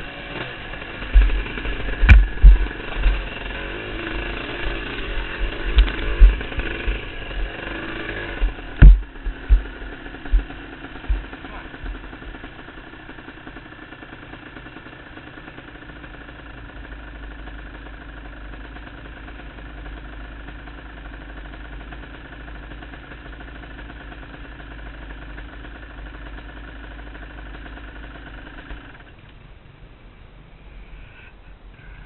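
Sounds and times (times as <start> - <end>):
dirt bike engine idling: 0.0 - 32.0.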